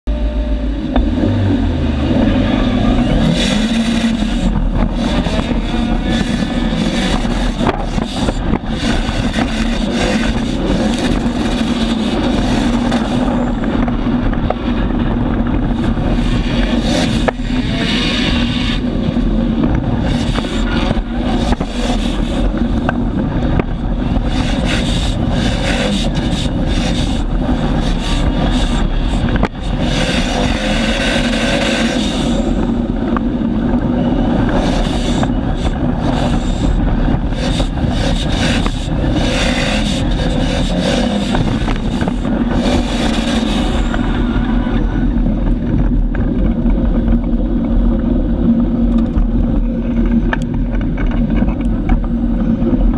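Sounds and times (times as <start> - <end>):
car engine running hard: 0.0 - 52.9
wind buffeting the microphone: 0.8 - 52.9.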